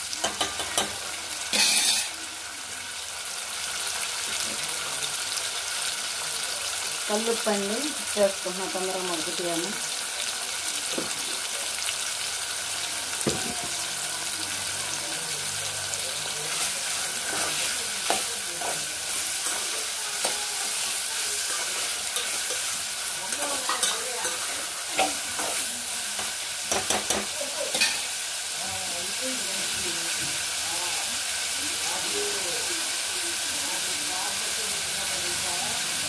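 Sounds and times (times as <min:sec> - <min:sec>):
vegetables sizzling in hot oil: 0:00.0 - 0:36.0.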